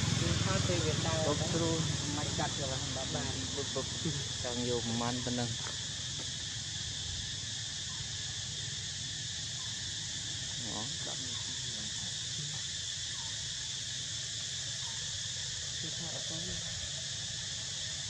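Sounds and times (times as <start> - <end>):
high insect chorus: 0.0 - 18.0.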